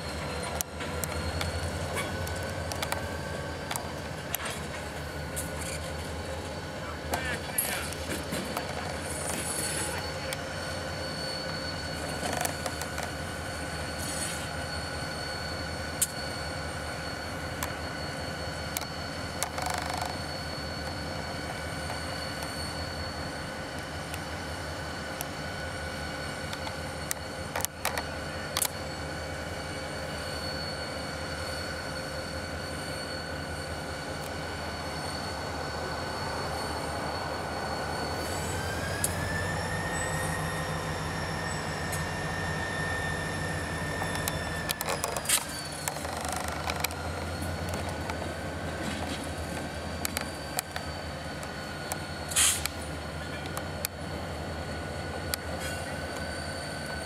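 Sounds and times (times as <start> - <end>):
brief squeal: 0.0 - 57.0
diesel locomotive engines rumbling: 0.0 - 57.0
high turbo whine: 0.0 - 57.0.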